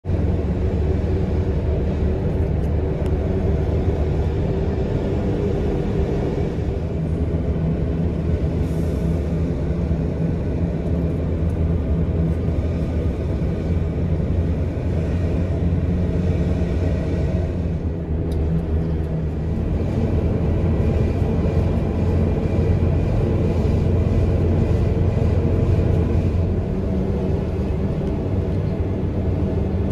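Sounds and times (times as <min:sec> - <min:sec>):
vehicle driving on paved road: 0:00.0 - 0:29.9.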